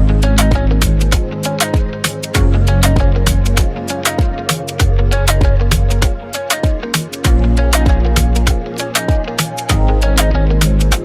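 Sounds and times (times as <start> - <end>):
upbeat afrobeat music: 0.0 - 11.0.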